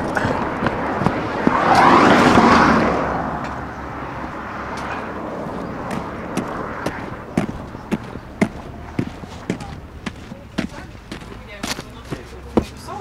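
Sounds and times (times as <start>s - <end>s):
footsteps on asphalt: 0.0s - 2.0s, 3.4s - 13.0s
vehicle passing: 0.0s - 13.0s.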